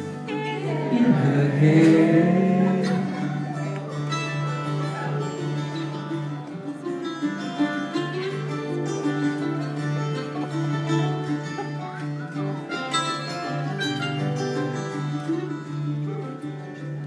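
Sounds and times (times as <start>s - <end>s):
acoustic string band playing: 0.0s - 17.0s.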